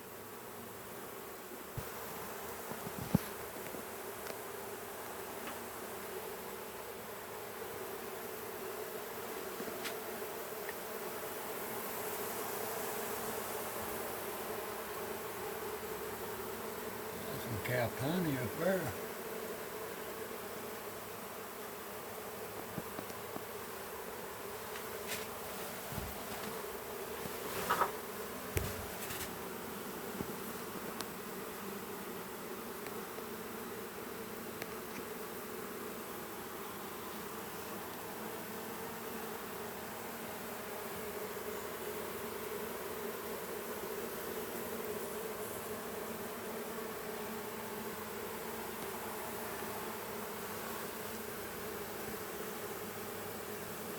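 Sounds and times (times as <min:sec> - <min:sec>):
bees buzzing: 0:00.0 - 0:53.9.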